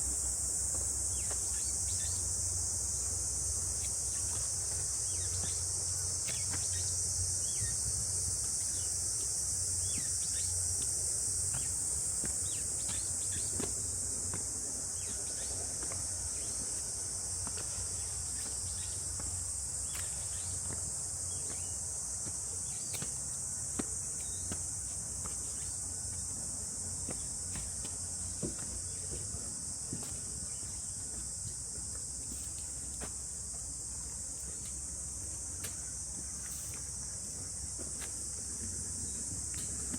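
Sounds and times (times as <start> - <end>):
footsteps on a trail: 0.0 - 2.1, 2.7 - 39.9
cicada chorus drone: 0.0 - 39.9.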